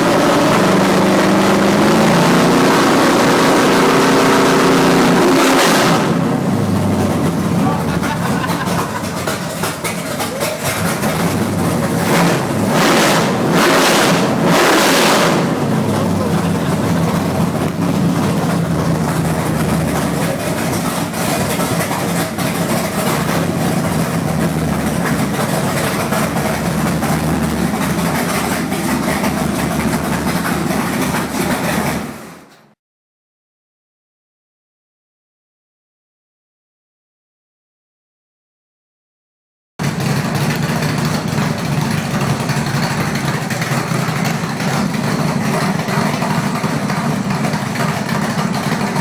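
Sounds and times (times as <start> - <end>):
engine revving and idling: 0.0 - 32.5, 39.8 - 49.0.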